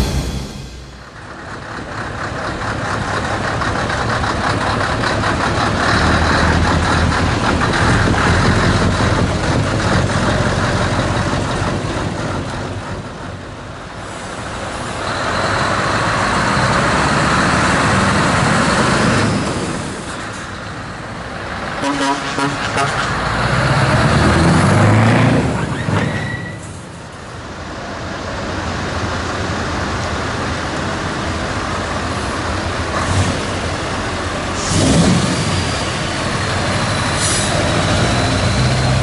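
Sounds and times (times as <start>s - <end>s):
truck diesel engines roaring: 0.0s - 39.0s.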